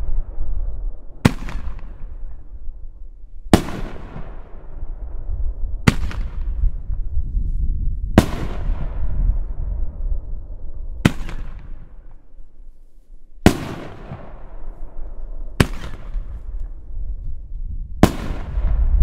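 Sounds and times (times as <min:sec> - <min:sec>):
rolling echo: 0:00.0 - 0:07.1, 0:08.1 - 0:12.4, 0:13.4 - 0:17.2, 0:18.0 - 0:19.0.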